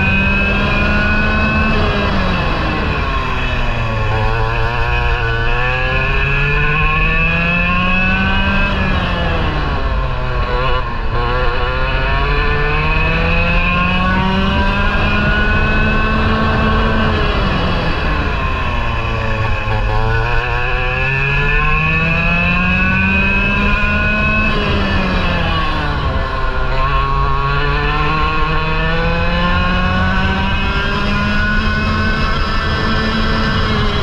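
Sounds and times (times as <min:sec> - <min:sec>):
kart engine revving: 0:00.0 - 0:34.0.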